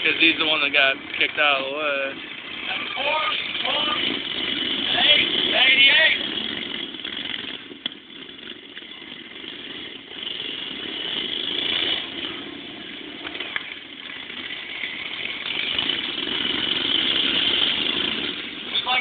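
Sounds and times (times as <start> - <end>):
lawn mower engines racing: 0.0 - 19.0.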